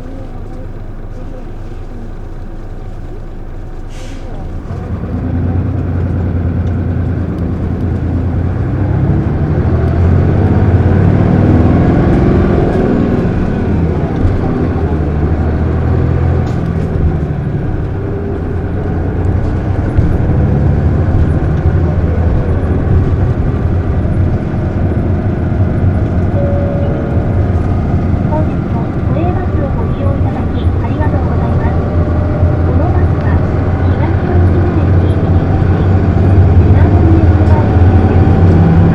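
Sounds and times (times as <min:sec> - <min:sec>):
bus diesel engine accelerating: 0:00.0 - 0:38.9.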